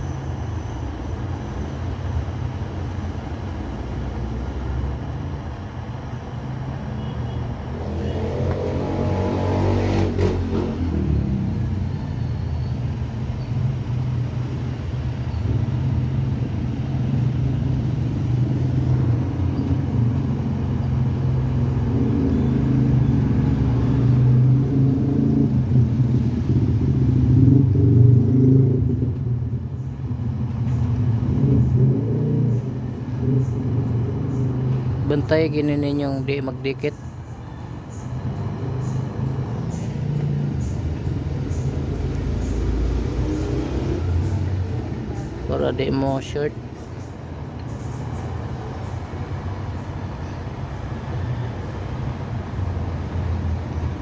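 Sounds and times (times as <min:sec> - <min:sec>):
vehicle engine low rumble: 0:00.0 - 0:54.0.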